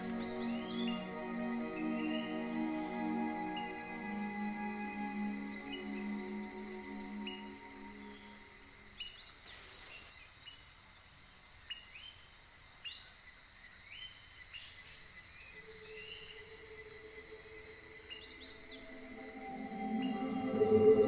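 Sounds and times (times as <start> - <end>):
high insect hum: 0.0 - 10.1, 10.9 - 21.0.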